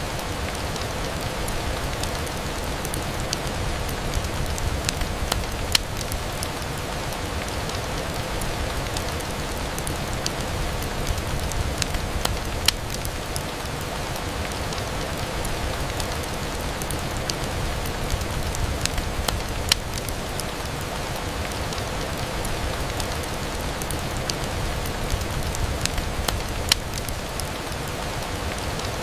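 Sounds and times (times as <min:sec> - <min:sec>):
rain on window glass: 0:00.0 - 0:29.0
raindrop ticks: 0:00.1 - 0:29.0.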